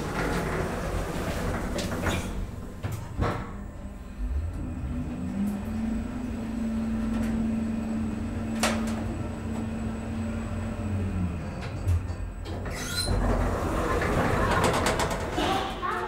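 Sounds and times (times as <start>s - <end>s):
elevator drive hum: 0.0s - 16.0s.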